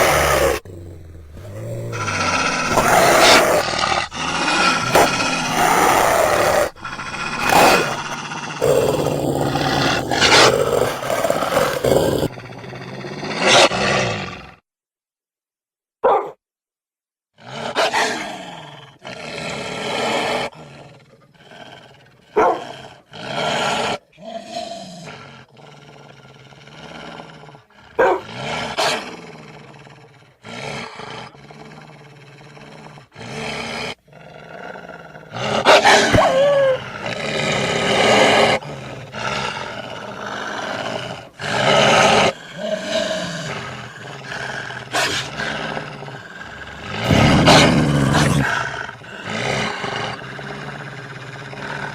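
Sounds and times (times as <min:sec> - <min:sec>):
wolf and dog growling: 0:00.0 - 0:14.6, 0:17.4 - 0:51.9.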